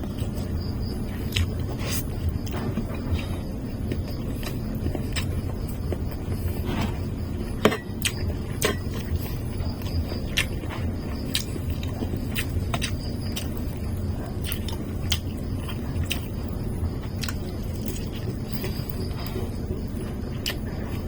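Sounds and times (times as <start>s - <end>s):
person chewing and biting: 0.0s - 7.0s, 8.0s - 16.5s, 17.1s - 19.4s, 20.0s - 21.0s
steady low hum: 0.0s - 21.0s.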